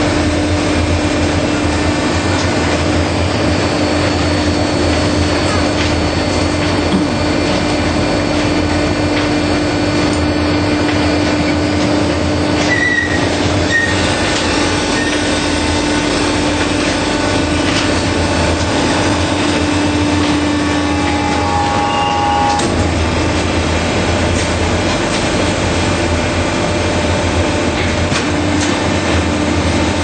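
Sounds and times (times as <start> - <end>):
baler machine humming: 0.0 - 30.0.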